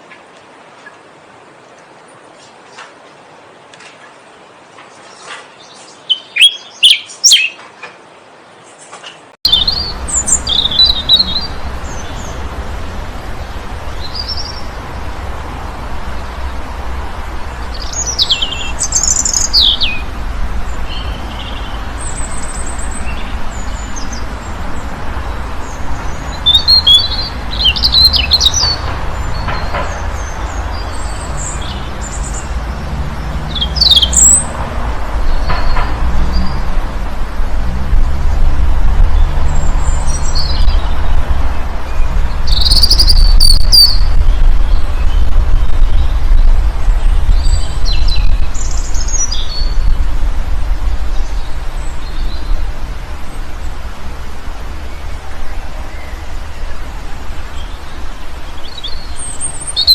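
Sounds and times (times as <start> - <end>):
small birds chirping: 4.9 - 34.6, 38.3 - 50.1, 50.8 - 53.8, 54.8 - 59.9.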